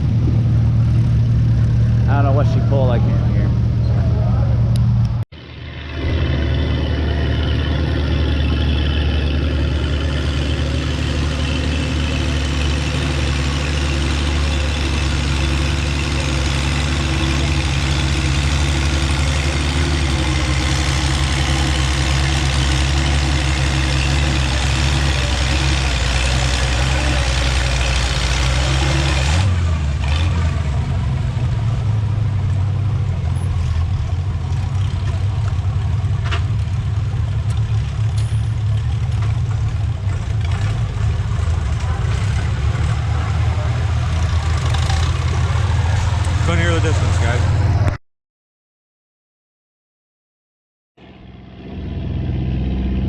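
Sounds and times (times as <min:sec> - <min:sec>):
tractor engine running hard: 0:00.0 - 0:48.0.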